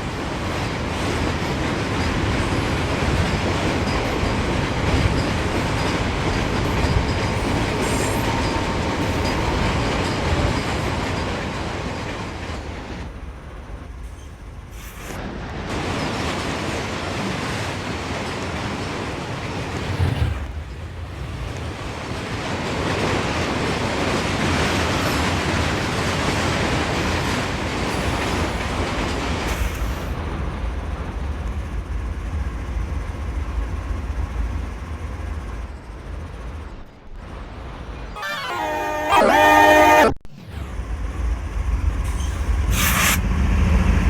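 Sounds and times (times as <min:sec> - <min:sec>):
freight train rolling by: 0:00.0 - 0:44.0.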